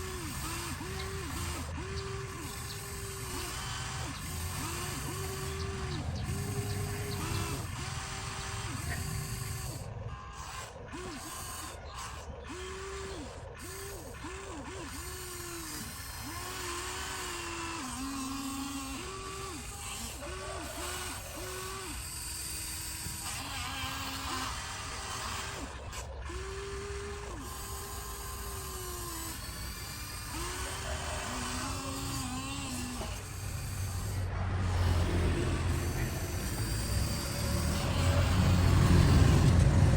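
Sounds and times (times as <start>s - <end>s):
gritty mechanical background: 0.0s - 39.9s
hydraulic pump whining: 0.0s - 39.9s.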